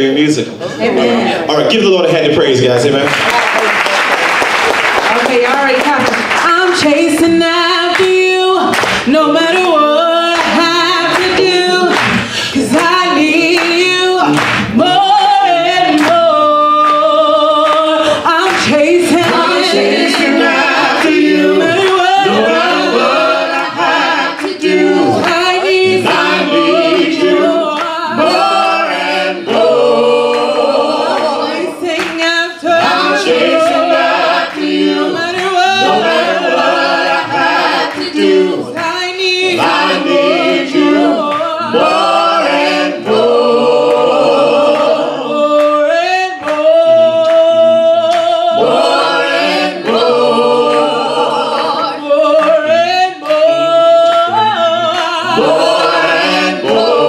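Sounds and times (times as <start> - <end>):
choir singing a cappella: 6.5 - 57.0.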